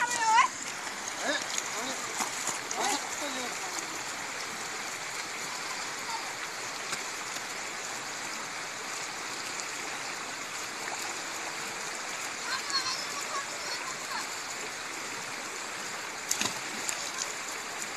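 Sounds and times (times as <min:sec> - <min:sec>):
river rushing over stones: 0:00.0 - 0:17.9.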